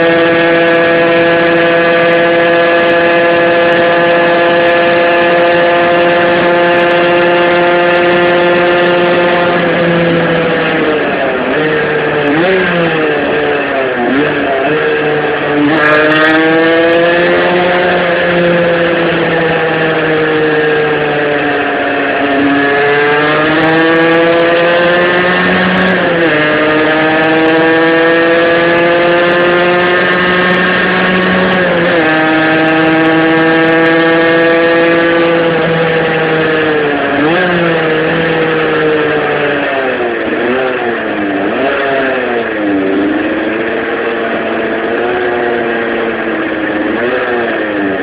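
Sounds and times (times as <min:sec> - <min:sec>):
two-stroke engine revving: 0:00.0 - 0:48.0.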